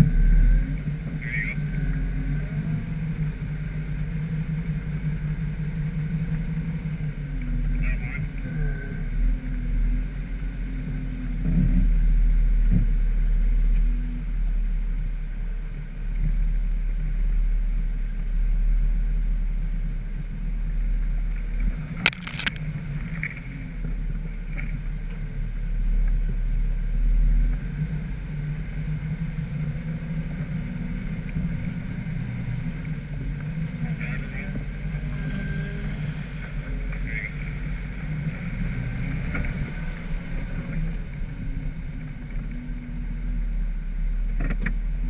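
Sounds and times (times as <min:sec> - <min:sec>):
off-road vehicle engine running: 0:00.0 - 0:45.0.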